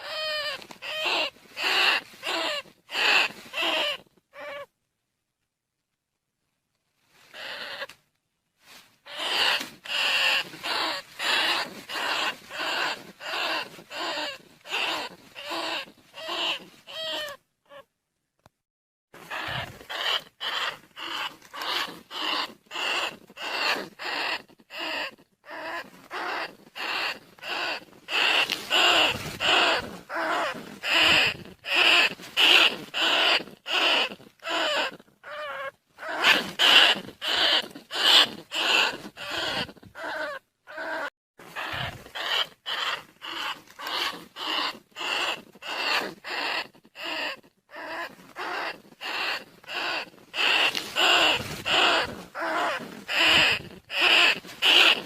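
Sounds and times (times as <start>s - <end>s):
harsh squeaking calls: 0.0s - 4.7s, 9.1s - 17.8s, 19.2s - 55.0s.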